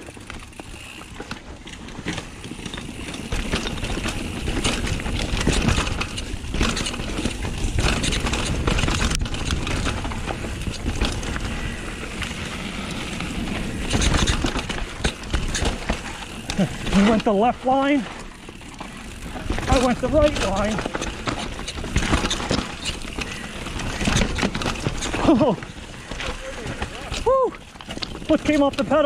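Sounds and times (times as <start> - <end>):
bike clattering: 0.0 - 29.0
bike tyres rattling over rocks: 0.0 - 29.0.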